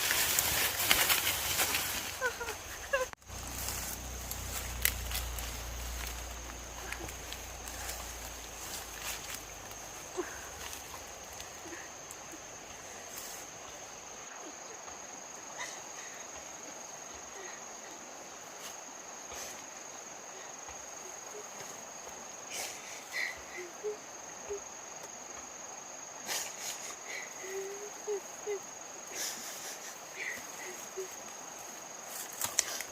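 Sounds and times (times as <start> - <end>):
insects trilling: 0.0 - 32.9.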